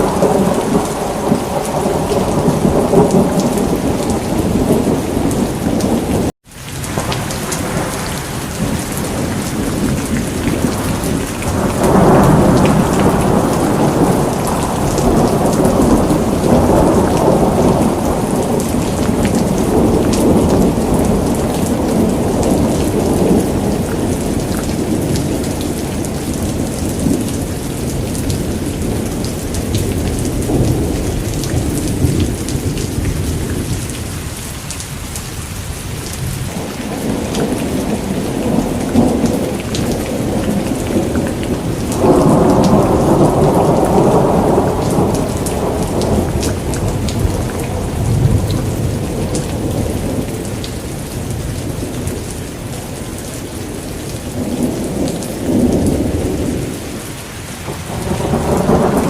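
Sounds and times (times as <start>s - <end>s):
rolling thunder: 0.0s - 34.4s, 35.7s - 59.0s
heavy rain: 0.0s - 59.0s.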